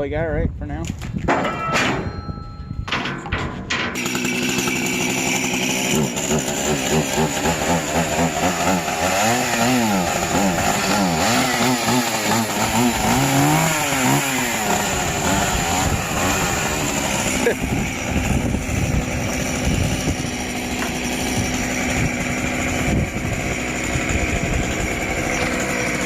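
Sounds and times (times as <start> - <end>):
chainsaw revving and cutting: 4.0 - 26.0.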